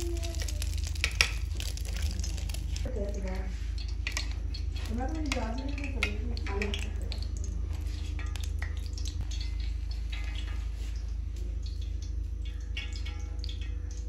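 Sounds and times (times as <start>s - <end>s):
oil popping and crackling: 0.0s - 14.0s
steady low hum: 0.0s - 14.0s.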